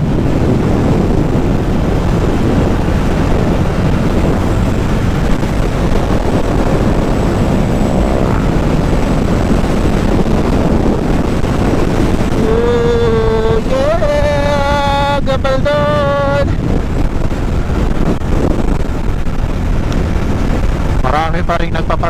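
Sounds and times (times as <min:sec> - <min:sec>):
motorcycle engine running: 0:00.0 - 0:22.0
wind rush on microphone: 0:00.0 - 0:22.0.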